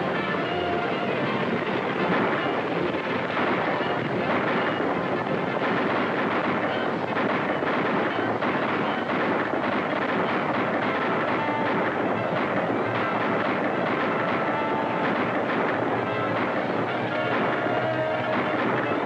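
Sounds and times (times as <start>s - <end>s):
faint music: 0.0s - 19.0s
horses galloping: 0.0s - 19.0s.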